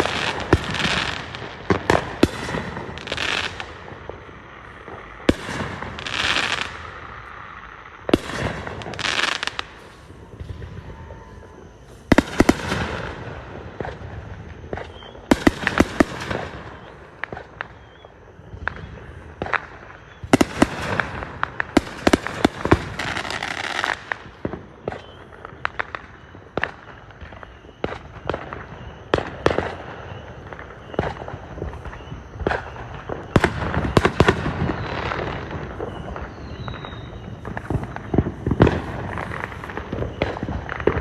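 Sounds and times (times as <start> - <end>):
fireworks bangs and pops: 0.0 - 41.0.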